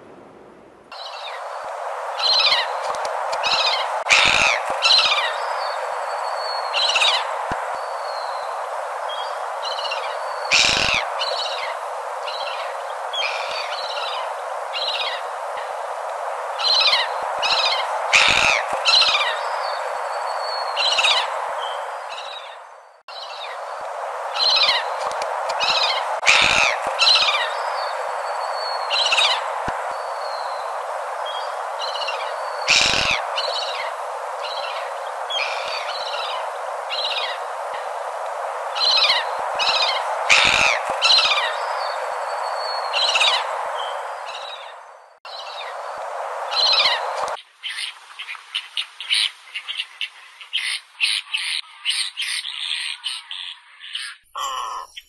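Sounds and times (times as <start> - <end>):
steady hiss: 0.0 - 51.9
gulls calling: 0.9 - 47.9, 54.0 - 55.0.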